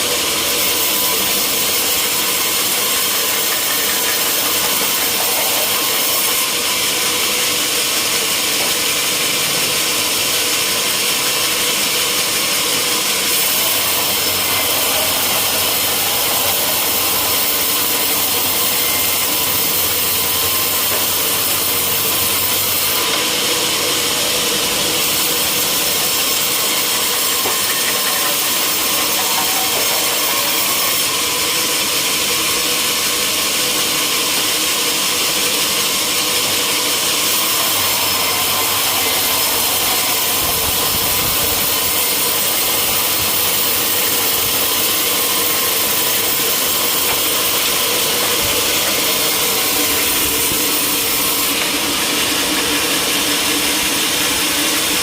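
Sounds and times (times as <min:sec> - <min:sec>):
sawmill saw cutting timber: 0:00.0 - 0:55.0.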